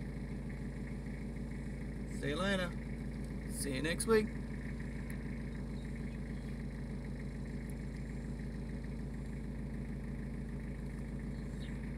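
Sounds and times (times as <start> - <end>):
vehicle engine idling: 0.0 - 11.9.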